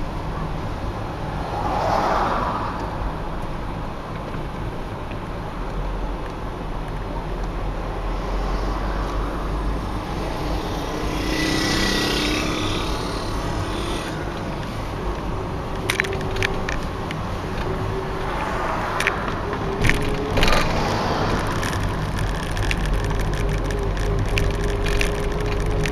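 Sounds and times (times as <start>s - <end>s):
road vehicle passing by: 0.0s - 4.6s, 5.9s - 25.9s
steady rumble: 2.6s - 25.9s.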